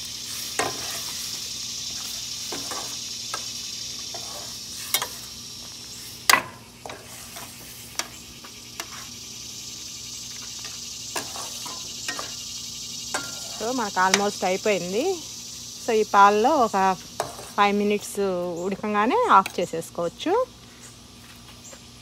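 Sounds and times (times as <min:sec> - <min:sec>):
curry simmering and sizzling: 0:00.0 - 0:18.2.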